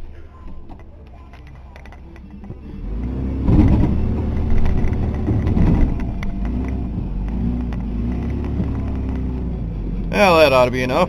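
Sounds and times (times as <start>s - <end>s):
truck engine rumbling under load: 0.0s - 11.0s
truck rattles and knocks: 0.5s - 11.0s.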